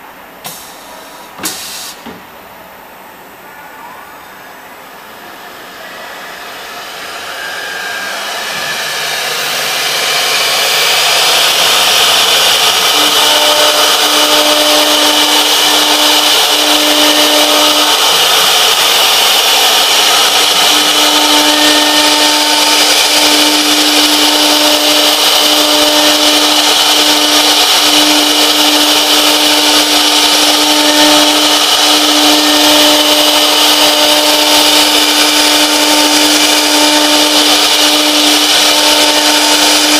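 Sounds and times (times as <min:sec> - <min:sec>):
wood router spindle whine: 0:03.4 - 0:39.9.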